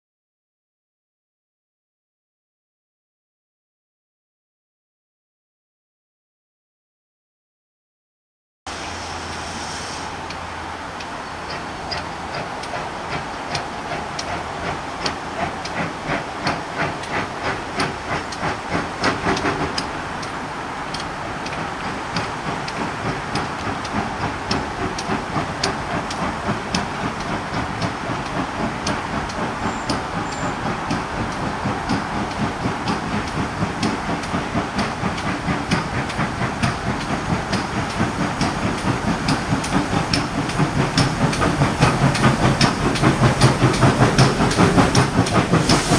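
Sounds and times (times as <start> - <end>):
steam locomotive exhaust beat: 8.7 - 45.9.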